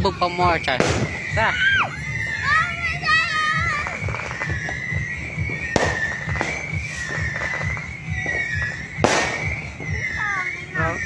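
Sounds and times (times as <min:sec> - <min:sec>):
fireworks crackling pops: 0:00.0 - 0:11.0
fireworks loud bangs: 0:00.0 - 0:11.0
wavering high tone: 0:00.0 - 0:11.0.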